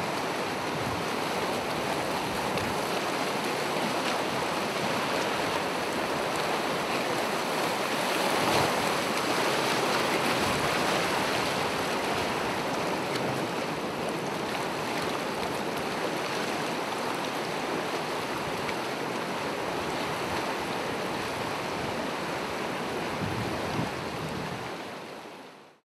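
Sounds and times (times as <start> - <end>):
ocean waves on shore: 0.0 - 25.8.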